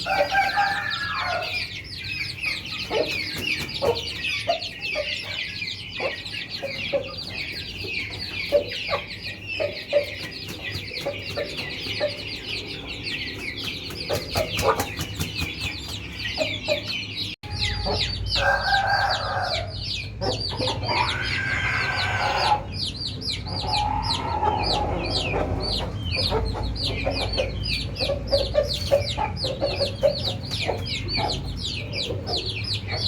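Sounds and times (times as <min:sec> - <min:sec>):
chicks peeping: 0:00.0 - 0:33.0
hen clucking: 0:00.0 - 0:33.0.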